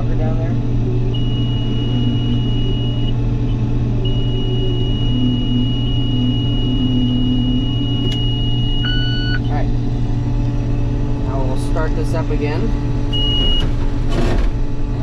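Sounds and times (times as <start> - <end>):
combine engine drone: 0.0 - 15.0
high-pitched warning tone: 0.8 - 13.7.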